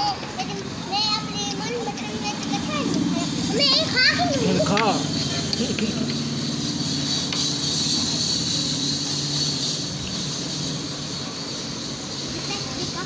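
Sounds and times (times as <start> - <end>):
high hiss: 0.0 - 13.0
steady machine hum: 0.0 - 13.0.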